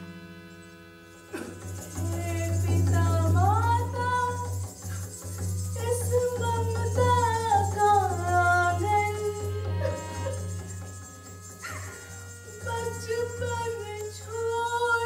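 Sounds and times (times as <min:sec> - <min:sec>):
harmonium holding notes: 0:00.0 - 0:15.0
woman singing ornamented melody: 0:01.8 - 0:15.0.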